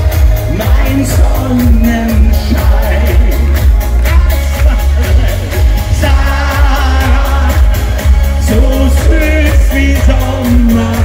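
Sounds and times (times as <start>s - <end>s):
heavy bass beat: 0.0s - 11.0s
man singing: 0.0s - 11.0s
pop song over loudspeakers: 0.0s - 11.0s.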